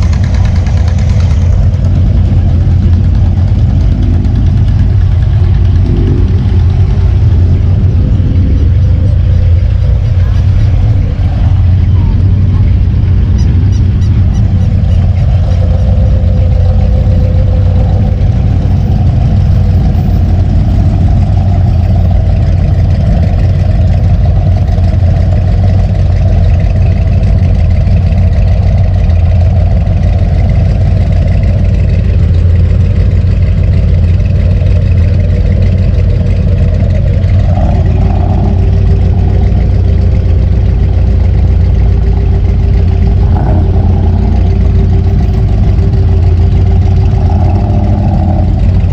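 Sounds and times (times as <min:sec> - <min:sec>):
road noise: 0:00.0 - 0:48.9
vehicle engine running: 0:00.0 - 0:48.9.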